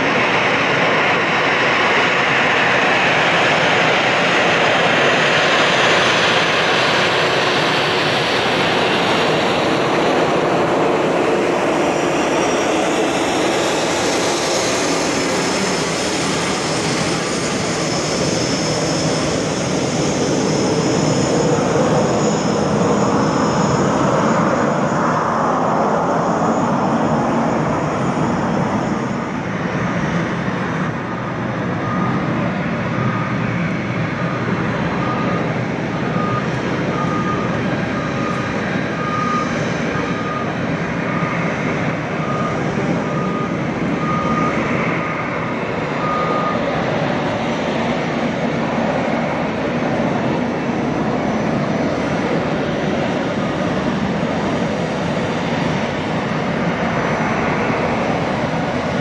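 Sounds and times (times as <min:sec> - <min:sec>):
high-pitched turbine whine: 0:00.0 - 0:59.0
jet engines roaring: 0:00.0 - 0:59.0.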